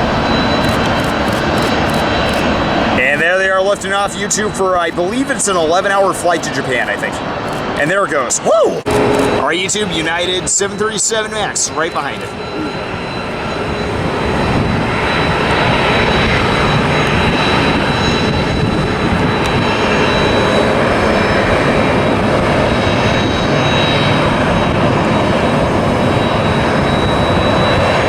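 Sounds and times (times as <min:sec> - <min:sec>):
faint high whine: 0:00.0 - 0:04.1, 0:08.0 - 0:28.0
jet engines roaring: 0:00.0 - 0:28.0.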